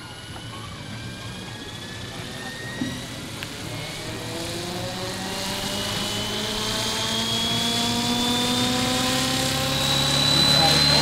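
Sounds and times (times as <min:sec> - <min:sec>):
helicopter motor and rotor whine: 0:00.0 - 0:11.0.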